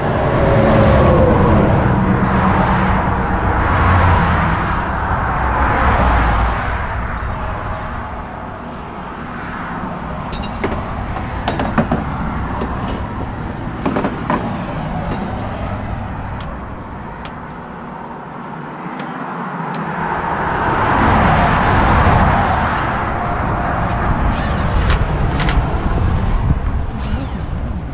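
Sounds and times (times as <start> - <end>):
car passing by: 0.0 - 11.4, 12.0 - 27.4
highway traffic rushing: 0.0 - 27.9.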